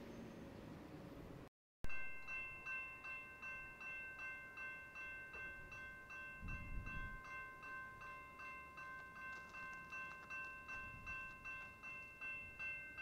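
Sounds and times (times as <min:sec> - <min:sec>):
crossing warning bell ringing: 0:01.8 - 0:13.0.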